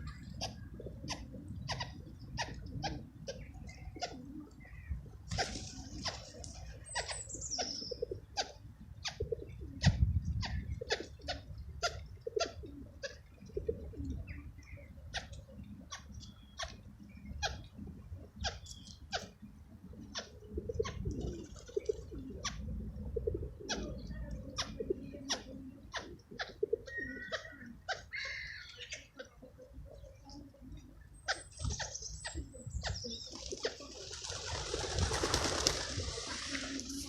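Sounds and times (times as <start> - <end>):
pigeons cooing: 0.0 - 37.0.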